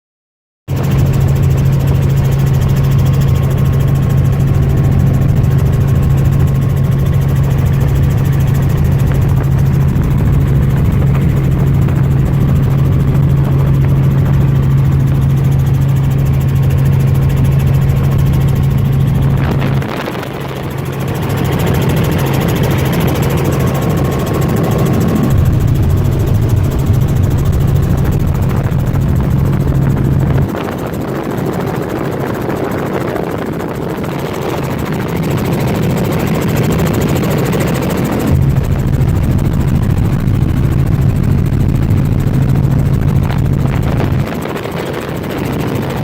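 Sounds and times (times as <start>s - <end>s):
helicopter engine and rotor drone: 0.7s - 46.0s.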